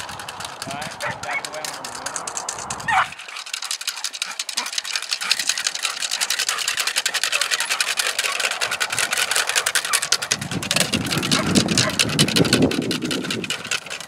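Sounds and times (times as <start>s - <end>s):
rapid dry clicking rattle: 0.0s - 14.0s.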